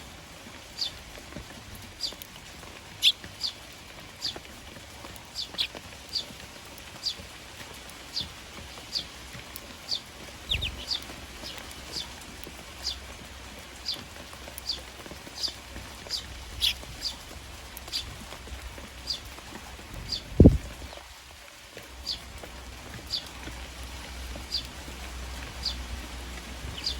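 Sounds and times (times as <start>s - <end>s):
rain hissing: 0.0s - 26.9s
sparrows chirping: 0.5s - 7.4s, 8.0s - 21.0s, 21.8s - 26.9s.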